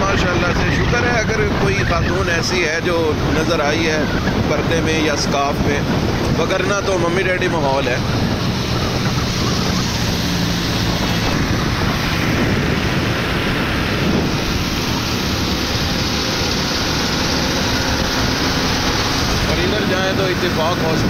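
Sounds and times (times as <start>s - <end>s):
motorcycle engine: 0.0s - 21.0s
wind rushing on microphone: 0.0s - 21.0s
tyre noise on wet road: 4.0s - 21.0s.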